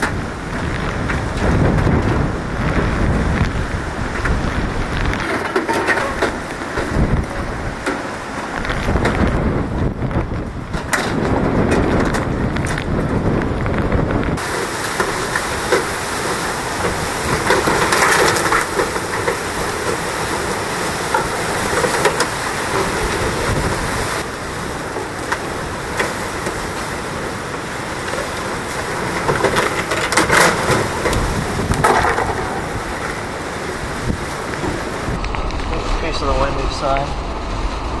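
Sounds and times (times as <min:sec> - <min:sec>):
driving rain: 0:00.0 - 0:38.0
strong wind: 0:00.0 - 0:38.0.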